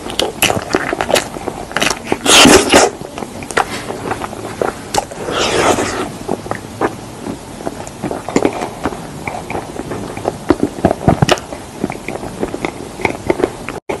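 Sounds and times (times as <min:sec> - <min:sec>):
chewing and crunching: 0:00.0 - 0:14.0.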